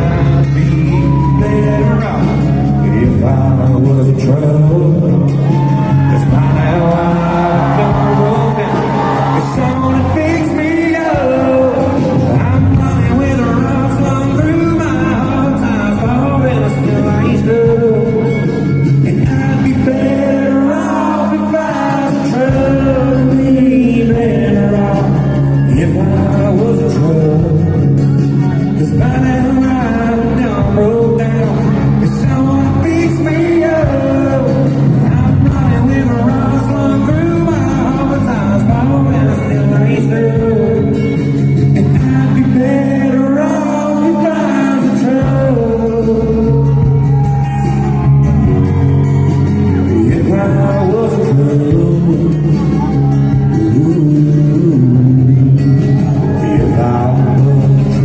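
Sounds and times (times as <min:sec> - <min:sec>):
bass: 0:00.0 - 0:58.0
guitar: 0:00.0 - 0:58.0
live band music: 0:00.0 - 0:58.0
person singing: 0:00.0 - 0:58.0.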